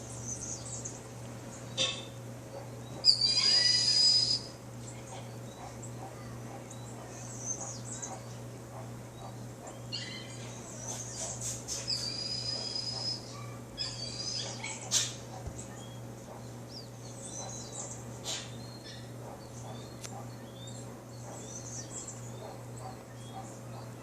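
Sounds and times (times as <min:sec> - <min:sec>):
birds chirping and whistling: 0:00.0 - 0:24.0.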